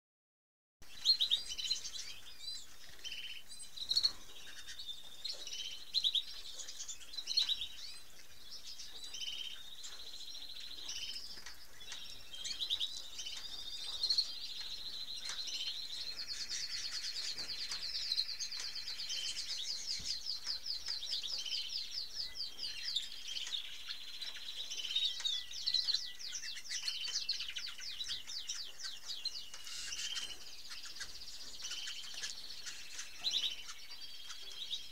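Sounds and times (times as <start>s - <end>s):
canaries singing: 0.8s - 34.9s.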